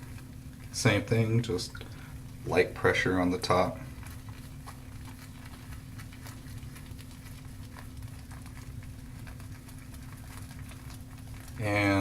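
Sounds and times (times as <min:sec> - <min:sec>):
shaving brush swirling on soap: 0:00.0 - 0:12.0.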